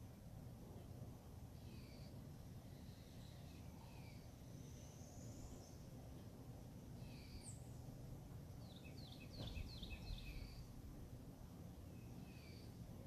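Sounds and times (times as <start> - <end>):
birds chirping faintly: 0.0 - 13.0
low outdoor rumble: 0.0 - 13.0.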